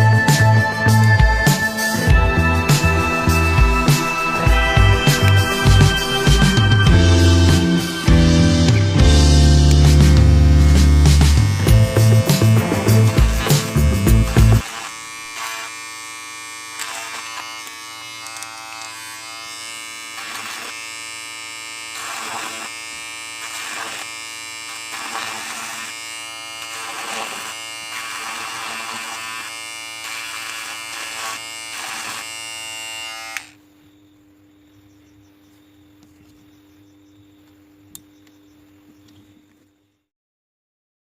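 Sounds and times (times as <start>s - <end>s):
electric hair clipper buzzing: 0.0s - 33.6s.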